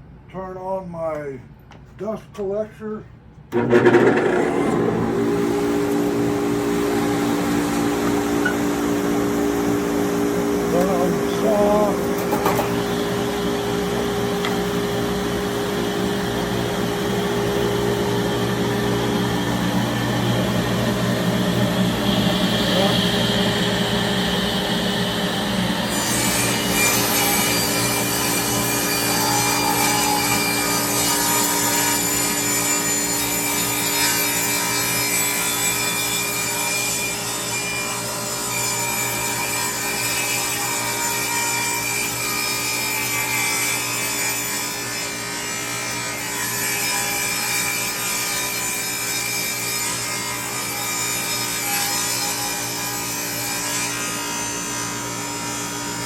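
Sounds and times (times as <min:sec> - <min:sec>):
table saw blade cutting wood: 0:03.5 - 0:25.0, 0:25.8 - 0:56.0
saw motor and dust collector hum: 0:03.5 - 0:56.0.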